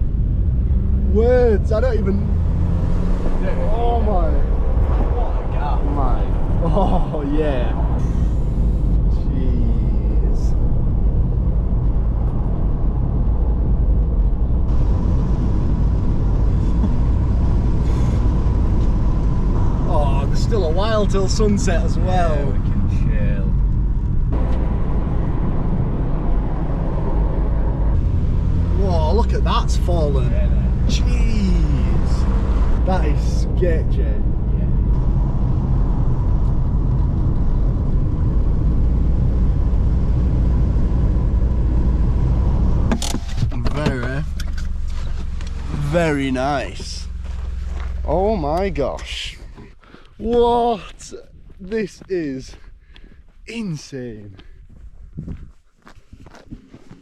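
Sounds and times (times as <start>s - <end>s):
car rumbling over rough road: 0.0s - 50.8s.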